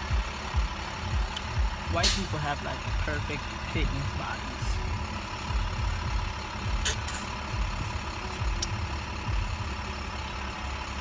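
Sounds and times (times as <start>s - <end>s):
car cabin engine rumble: 0.0s - 11.0s.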